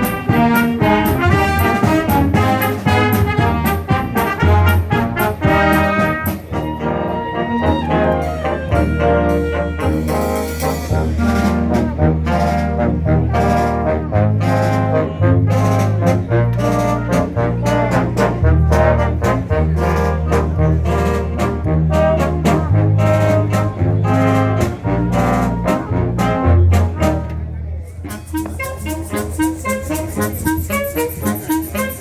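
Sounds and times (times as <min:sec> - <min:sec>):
low bass line: 0:00.0 - 0:29.3
concert band playing: 0:00.0 - 0:32.0.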